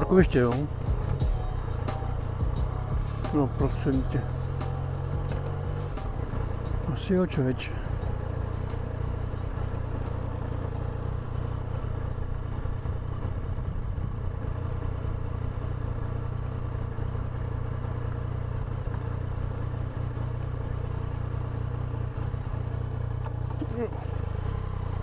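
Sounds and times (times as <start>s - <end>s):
motorcycle engine droning: 0.0s - 25.0s.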